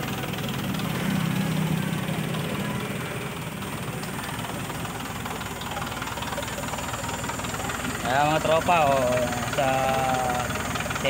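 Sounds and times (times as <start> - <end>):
petrol engine idling: 0.0 - 11.0
rapid mechanical clatter: 0.0 - 11.0.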